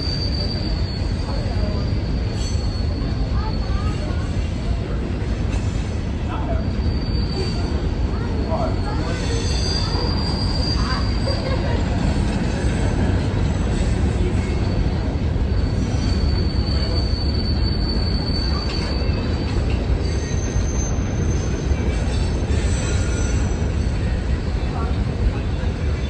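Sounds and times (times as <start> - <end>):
train rumbling past: 0.0 - 26.0
train wheels squealing: 0.0 - 26.0.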